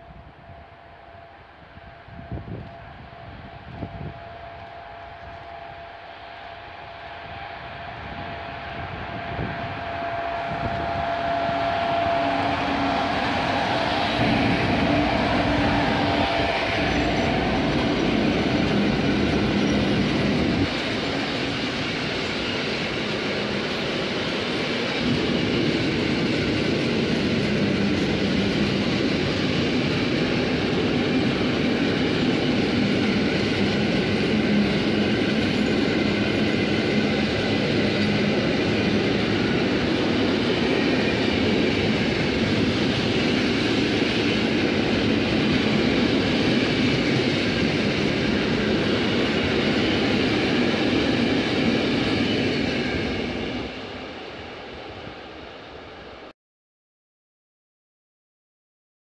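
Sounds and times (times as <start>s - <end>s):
train wheels rumbling on rails: 0.0s - 56.3s.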